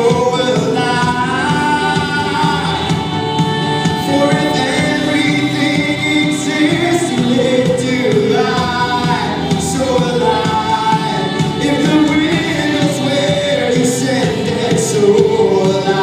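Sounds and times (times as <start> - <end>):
group of people singing: 0.0 - 16.0
keyboard and band accompaniment: 0.0 - 16.0.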